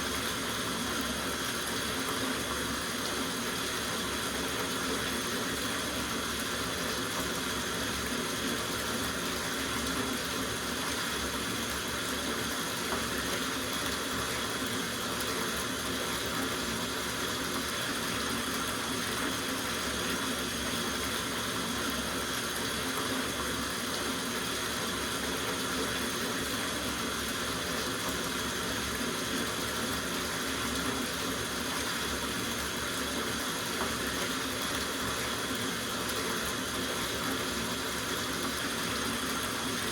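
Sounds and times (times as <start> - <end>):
tap running into bathtub: 0.2 - 20.4, 21.0 - 39.9.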